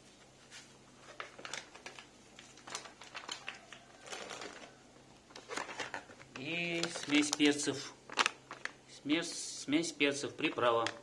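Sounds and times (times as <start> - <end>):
plastic packets crinkling: 1.0 - 9.5, 10.3 - 11.0.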